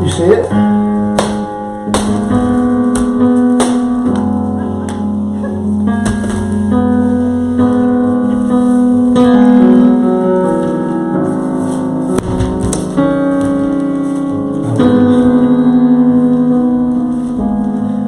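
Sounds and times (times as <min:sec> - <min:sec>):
slow piano-like chords: 0:00.0 - 0:18.0.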